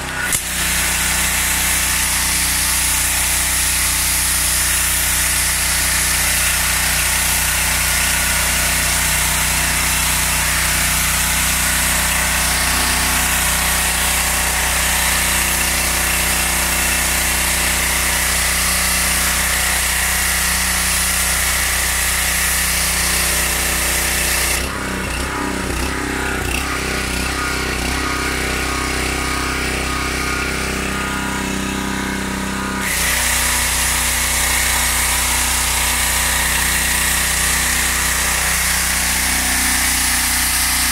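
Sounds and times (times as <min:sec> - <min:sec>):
pressure washer engine running: 0:00.0 - 0:40.9.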